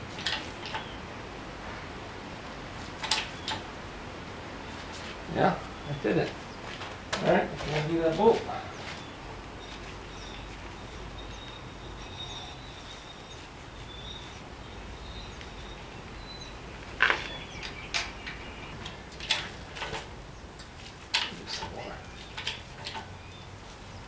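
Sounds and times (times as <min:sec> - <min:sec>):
low background noise: 0:00.0 - 0:24.0.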